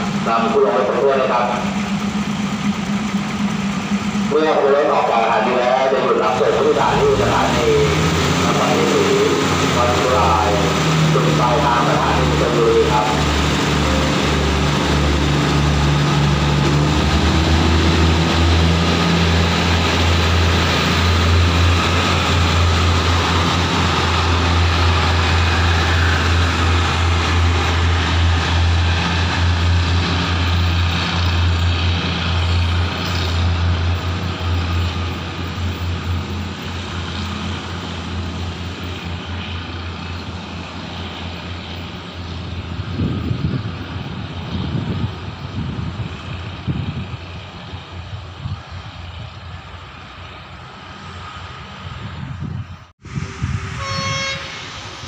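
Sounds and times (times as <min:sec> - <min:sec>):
diesel train engine drone: 0:00.0 - 0:55.0
wheels rumbling on rails: 0:00.0 - 0:55.0.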